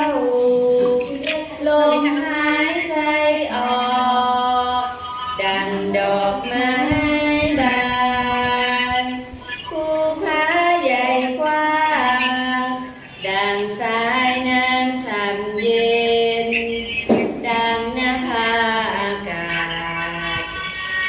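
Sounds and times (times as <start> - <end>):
woman singing slow song: 0.0 - 20.7.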